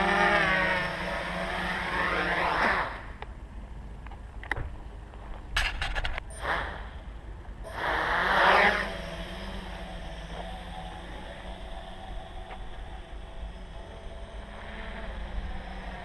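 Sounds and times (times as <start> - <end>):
drone propellers whirring: 0.0 - 3.6, 5.8 - 16.0
wind noise rumble: 0.0 - 16.0.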